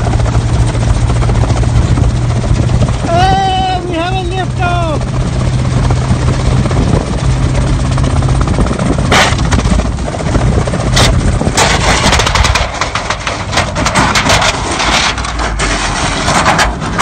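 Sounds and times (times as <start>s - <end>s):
engine noise: 0.0s - 17.0s
rotor spinning: 0.0s - 17.0s
wind: 0.0s - 17.0s.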